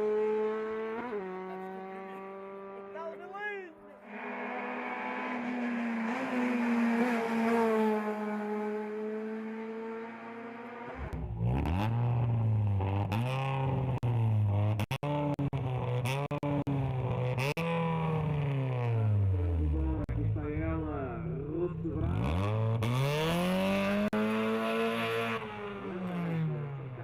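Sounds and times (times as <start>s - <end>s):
deep racing engine revving: 0.0s - 3.0s, 4.0s - 27.0s
racing car engine at high revs: 0.0s - 3.0s, 4.0s - 20.2s, 21.8s - 27.0s.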